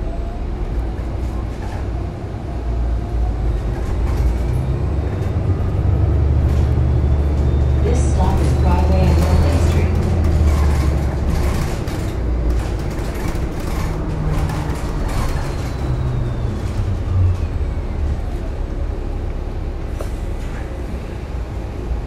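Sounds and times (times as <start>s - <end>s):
bus drivetrain rumble: 0.0s - 22.0s.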